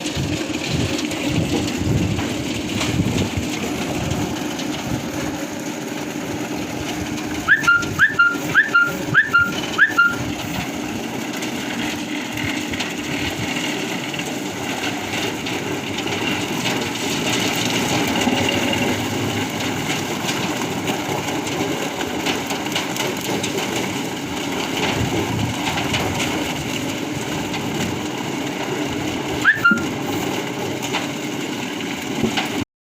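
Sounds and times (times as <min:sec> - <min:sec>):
wood debarking machine humming: 0:00.0 - 0:32.6.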